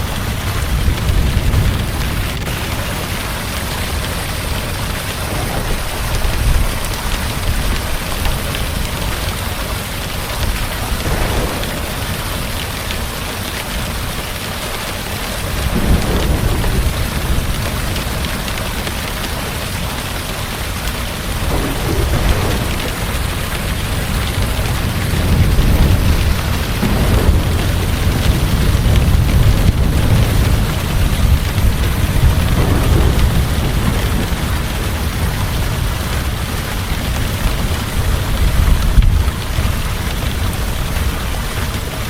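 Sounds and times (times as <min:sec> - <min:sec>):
thunder rolling: 0:00.0 - 0:41.7
heavy rain falling: 0:00.0 - 0:42.0.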